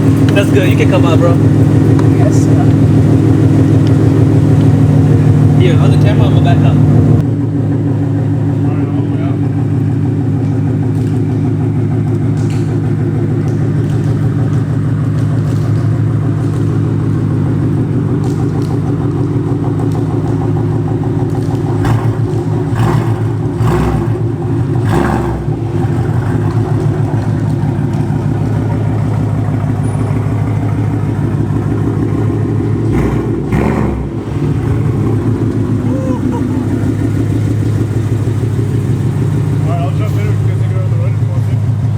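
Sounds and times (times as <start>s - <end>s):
loud engine idle: 0.0s - 41.9s.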